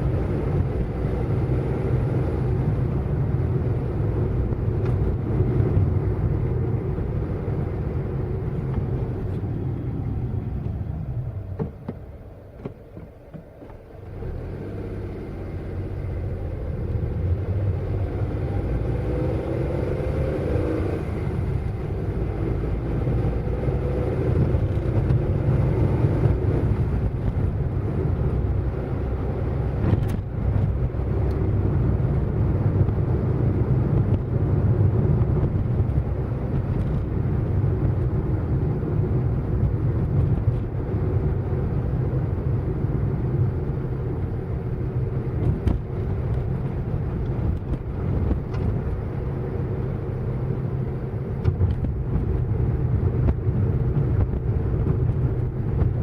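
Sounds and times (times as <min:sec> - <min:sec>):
car engine rumble: 0:00.0 - 0:56.0
road noise while driving: 0:00.0 - 0:56.0.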